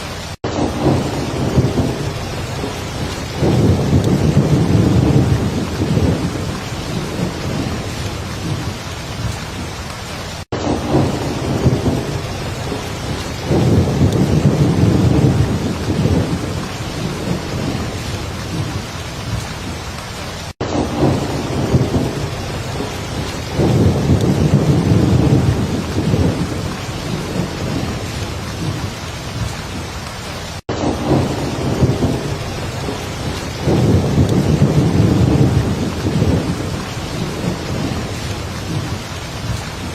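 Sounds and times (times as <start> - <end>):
low rolling thunder: 0.0 - 9.7, 10.5 - 19.8, 20.6 - 29.9, 30.7 - 39.9
heavy rain falling: 0.0 - 39.9.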